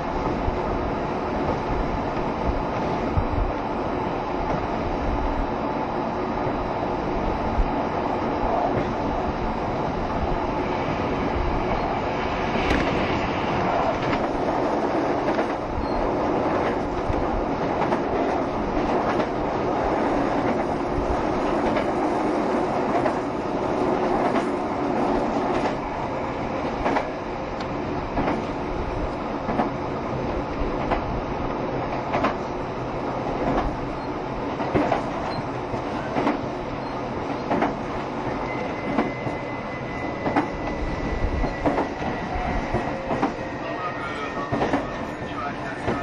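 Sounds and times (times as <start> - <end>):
train rolling rumble: 0.0 - 46.0.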